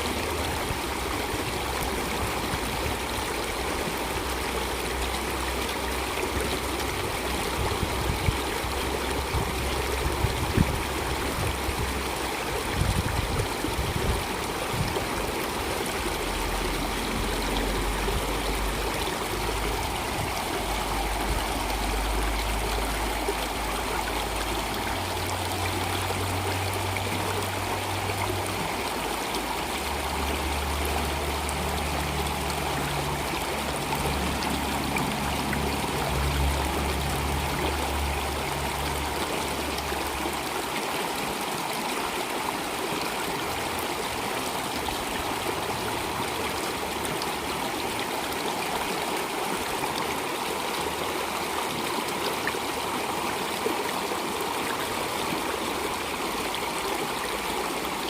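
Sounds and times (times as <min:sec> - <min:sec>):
stream water flowing: 0:00.0 - 0:58.0
water splashes: 0:00.0 - 0:58.0.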